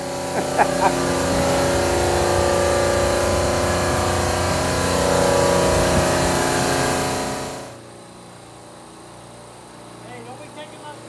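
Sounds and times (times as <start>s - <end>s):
refrigeration machinery drone: 0.0s - 11.0s.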